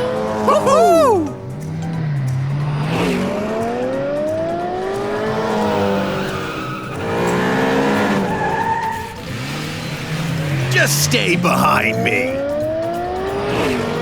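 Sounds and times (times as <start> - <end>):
cartoon race car engine revving: 0.0 - 14.0.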